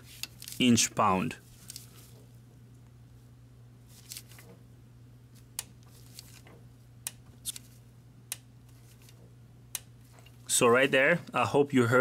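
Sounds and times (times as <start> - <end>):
soft handling noises: 0.0 - 4.7, 5.3 - 7.9, 8.6 - 11.5.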